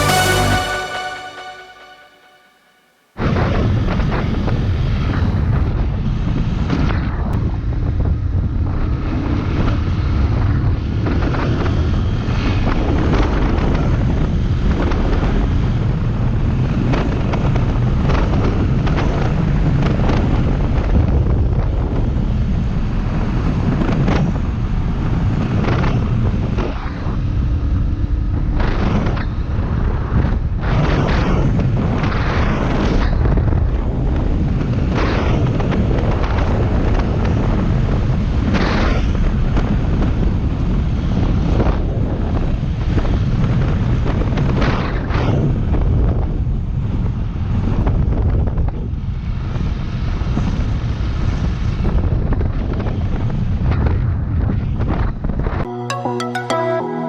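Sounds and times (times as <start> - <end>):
wind buffeting microphone: 4.4 - 55.7.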